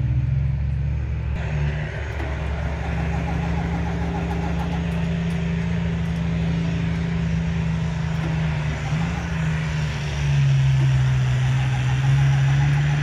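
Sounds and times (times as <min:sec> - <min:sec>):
half-track engine running: 0:00.0 - 0:13.0.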